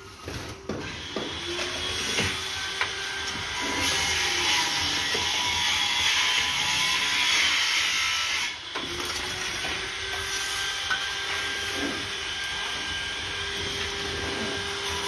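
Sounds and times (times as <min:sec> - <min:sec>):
trowel scraping mortar: 0:00.0 - 0:15.0.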